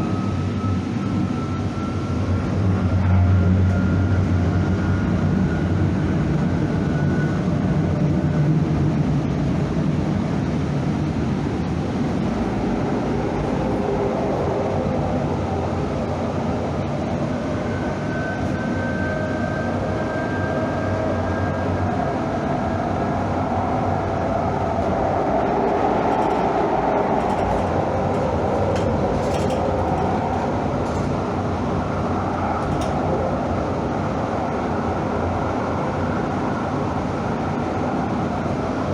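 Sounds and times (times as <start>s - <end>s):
train rumbling along track: 0.0s - 38.9s.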